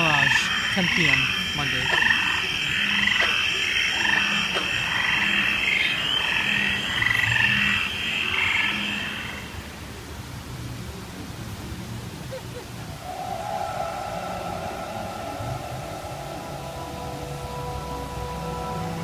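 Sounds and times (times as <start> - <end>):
frogs croaking in chorus: 0.0 - 10.0, 12.9 - 19.0
steady high hiss: 0.0 - 19.0.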